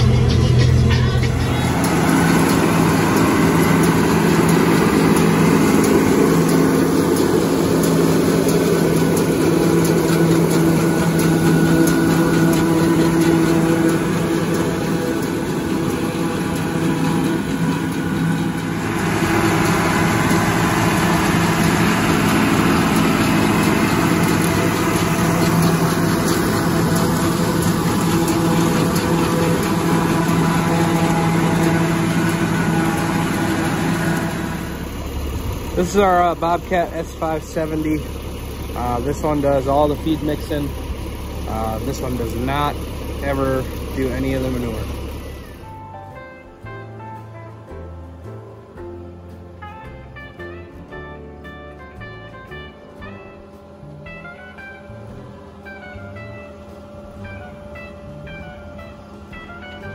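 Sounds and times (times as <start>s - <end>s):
forage chopper blowing crop: 0.0s - 47.8s, 49.2s - 59.9s
tractor engine running under load: 0.0s - 59.9s.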